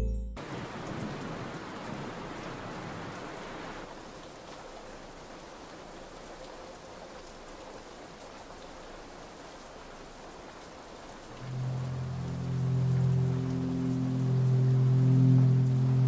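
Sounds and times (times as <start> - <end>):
heavy rain on the ground: 0.4 - 16.0.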